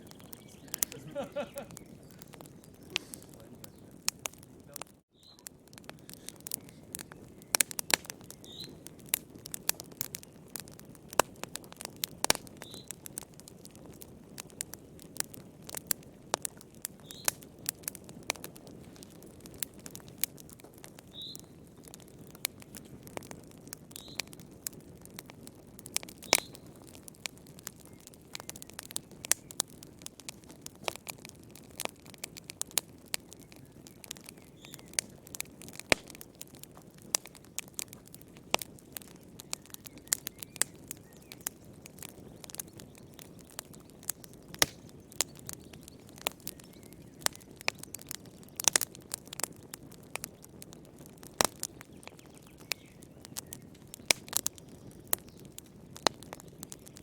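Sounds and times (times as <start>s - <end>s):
low rumble of burning: 0.0s - 57.0s
wood fire crackling and popping: 0.0s - 57.0s.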